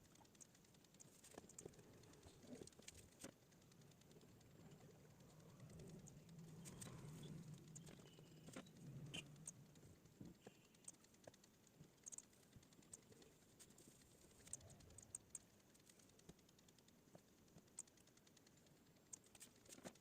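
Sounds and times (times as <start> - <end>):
faint clicks: 0.0 - 20.0.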